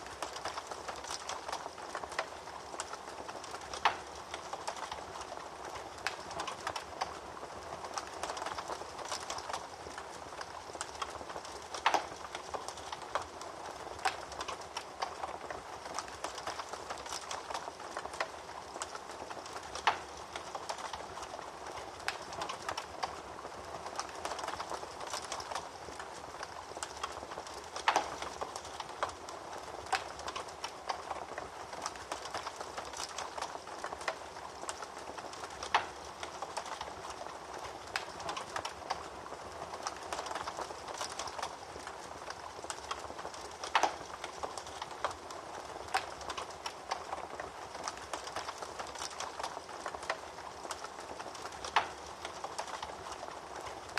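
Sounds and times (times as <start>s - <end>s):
wood fire crackling: 0.0s - 53.9s
fire pops: 7.9s - 23.2s, 23.9s - 39.1s, 39.8s - 53.9s.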